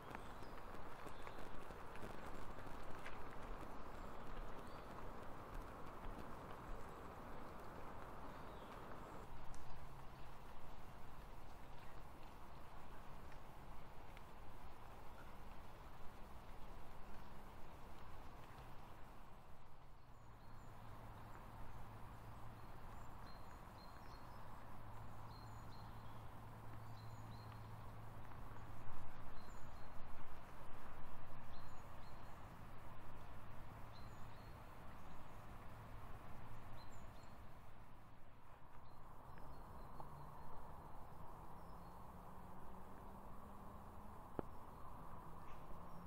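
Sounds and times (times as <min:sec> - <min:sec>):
small birds chirping: 0:00.0 - 0:19.0, 0:19.9 - 0:37.8, 0:38.6 - 0:46.0.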